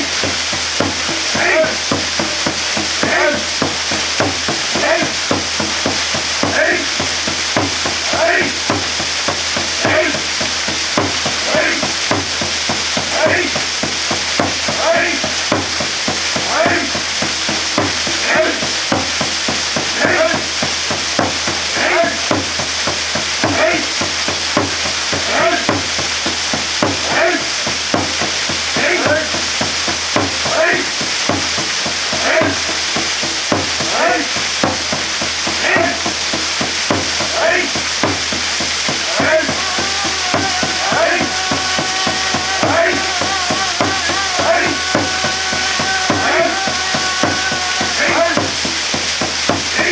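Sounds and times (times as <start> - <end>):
waterfall pouring: 0.0 - 49.9.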